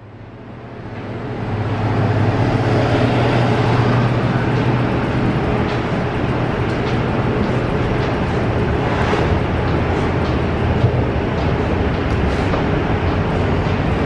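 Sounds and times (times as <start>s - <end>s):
station machinery hum: 0.0s - 14.0s.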